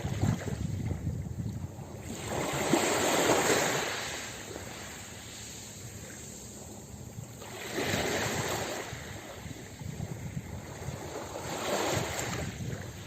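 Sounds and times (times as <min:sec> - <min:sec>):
ocean waves breaking on beach: 0:00.0 - 0:00.8, 0:01.9 - 0:06.8, 0:07.4 - 0:13.0.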